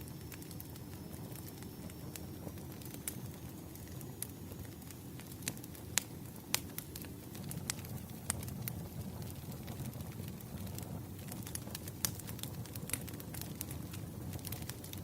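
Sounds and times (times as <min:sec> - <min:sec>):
sharp pops from fire: 0:00.0 - 0:15.0
wood fire crackling: 0:00.0 - 0:15.0
burning logs rumbling: 0:00.1 - 0:15.0.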